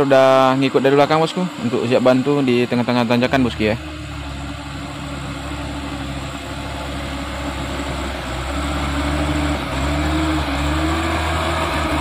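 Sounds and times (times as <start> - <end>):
diesel truck engine climbing: 0.0 - 12.0.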